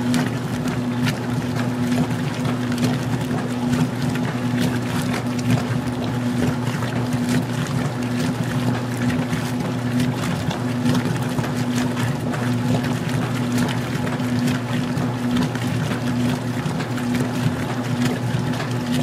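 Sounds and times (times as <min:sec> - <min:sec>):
washing machine motor hum: 0:00.0 - 0:19.0
water sloshing in tub: 0:00.0 - 0:19.0.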